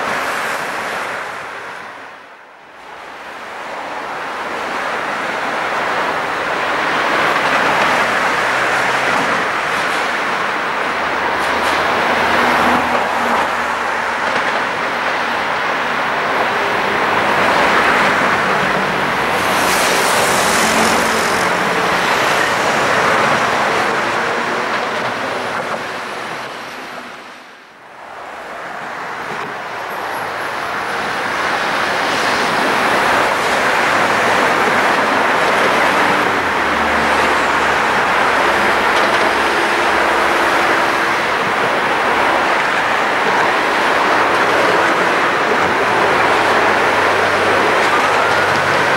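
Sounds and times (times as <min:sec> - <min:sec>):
city road traffic: 0:00.0 - 0:48.9.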